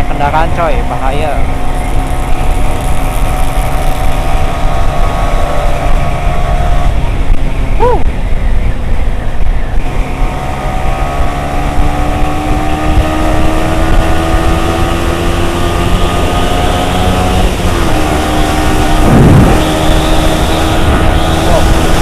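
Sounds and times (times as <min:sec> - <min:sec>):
motorcycle engine accelerating: 0:00.0 - 0:22.0
wind noise: 0:00.0 - 0:22.0.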